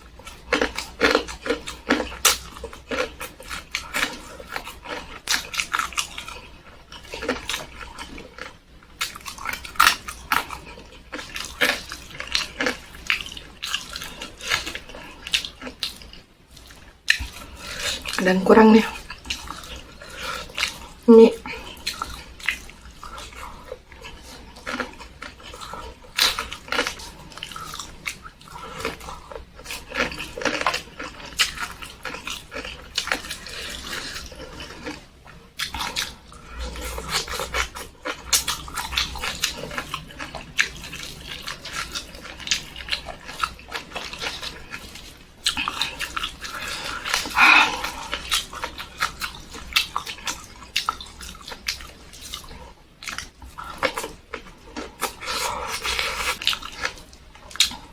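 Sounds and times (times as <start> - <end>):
wet chewing and mouth noises: 0.0 - 57.9.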